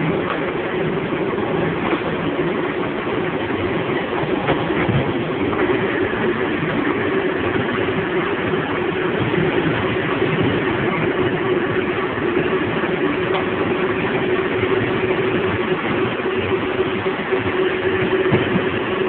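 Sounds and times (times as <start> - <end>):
machinery running: 0.0 - 19.0.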